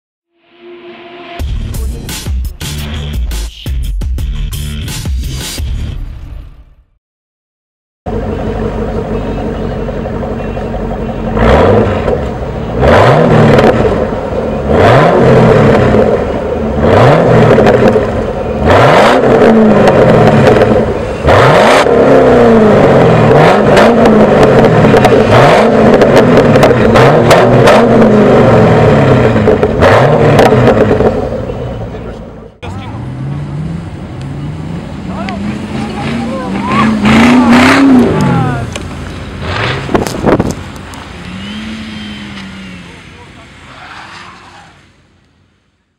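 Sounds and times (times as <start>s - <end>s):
car engine idling: 8.1s - 45.9s
car engine revving: 8.1s - 45.9s.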